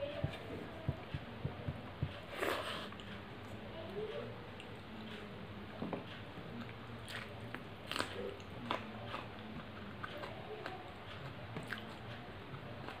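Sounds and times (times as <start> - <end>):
person chewing food: 0.1 - 3.6, 5.9 - 13.0.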